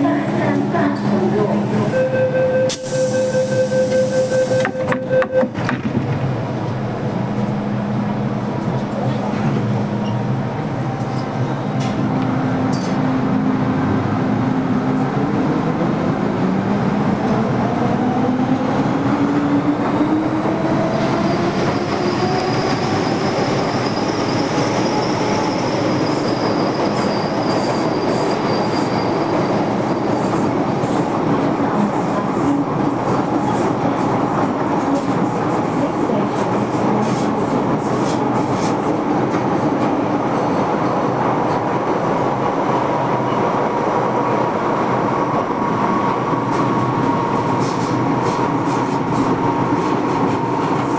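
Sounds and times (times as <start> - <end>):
train wheels rumbling on track: 2.7 - 50.9.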